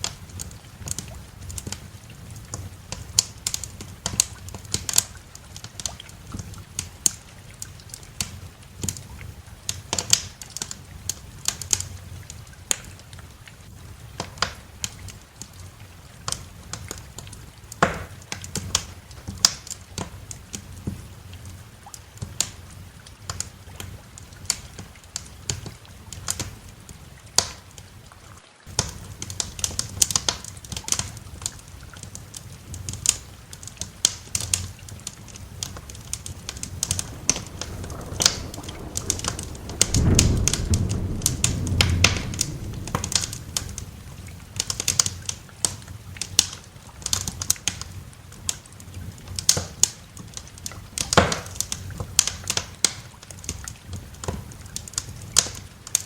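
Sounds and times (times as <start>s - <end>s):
wood fire crackling and popping: 0.0s - 13.3s, 14.0s - 27.9s, 28.7s - 56.0s.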